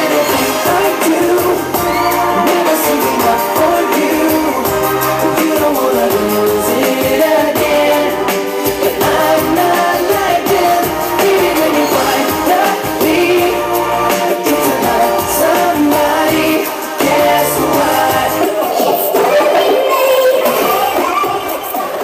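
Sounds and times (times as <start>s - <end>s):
pop song with vocals: 0.0s - 22.0s.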